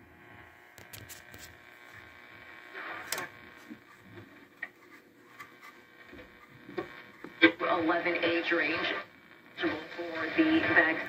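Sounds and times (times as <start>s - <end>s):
radio hiss and hum: 0.0s - 11.0s.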